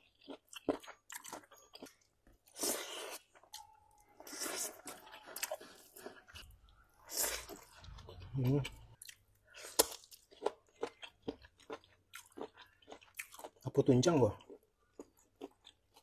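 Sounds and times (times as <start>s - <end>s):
person chewing rice: 0.0s - 16.0s.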